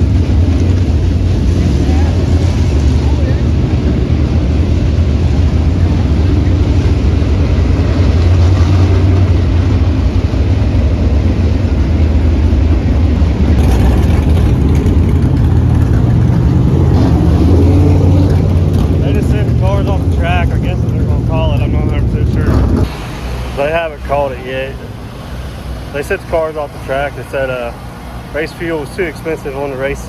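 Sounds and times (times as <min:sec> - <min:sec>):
engines rumbling: 0:00.0 - 0:30.0.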